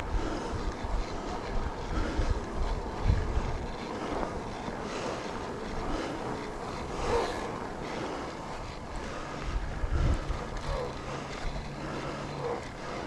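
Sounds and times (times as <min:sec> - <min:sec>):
bike tyres crunching through snow: 0:00.0 - 0:13.0
wind buffeting microphone: 0:00.0 - 0:13.0.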